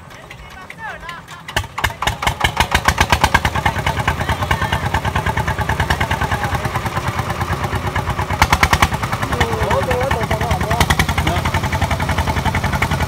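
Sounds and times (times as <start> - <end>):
small engine pulsing: 1.4 - 13.0.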